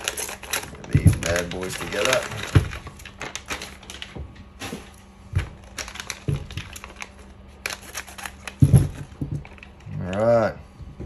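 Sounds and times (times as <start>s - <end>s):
small parts clicking and knocking: 0.0s - 4.2s, 5.4s - 10.3s.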